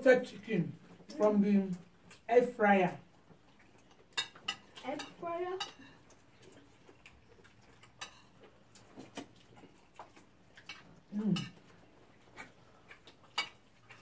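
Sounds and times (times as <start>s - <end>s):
eating sounds: 0.8s - 14.0s.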